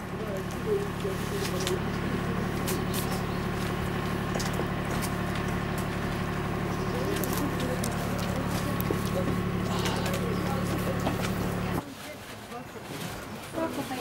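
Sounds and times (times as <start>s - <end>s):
low engine hum: 0.0s - 11.9s.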